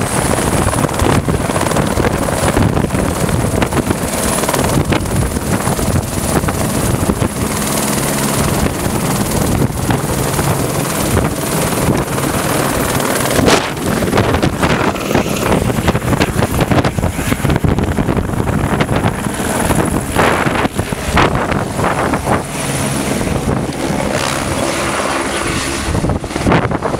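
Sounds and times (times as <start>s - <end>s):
helicopter rotor and engine noise: 0.0s - 26.9s.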